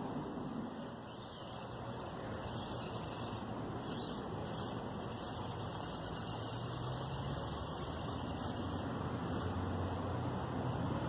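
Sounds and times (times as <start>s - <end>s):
small electric motor hum: 0.0s - 11.0s.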